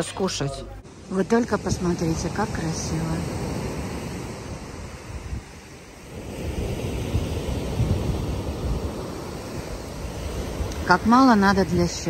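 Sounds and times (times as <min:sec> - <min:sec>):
surf on pebble beach: 0:00.0 - 0:12.0
wind buffeting microphone: 0:01.1 - 0:12.0.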